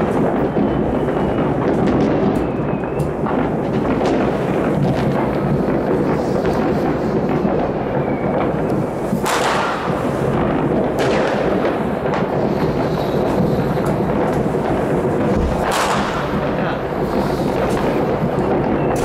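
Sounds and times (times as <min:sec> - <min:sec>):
distant fireworks crackling and rumbling: 0:00.0 - 0:19.0
loud firework bangs: 0:00.0 - 0:19.0.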